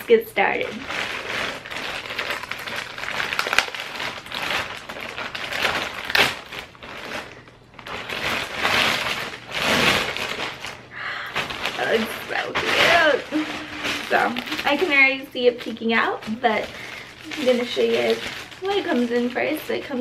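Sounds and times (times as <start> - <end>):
plastic bag rustling: 0.0 - 20.0
plastic mailer crinkling and tearing: 0.0 - 20.0.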